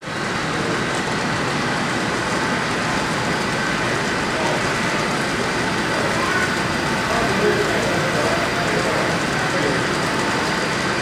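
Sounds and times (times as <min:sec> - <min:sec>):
train rumbling by: 0:00.0 - 0:11.0.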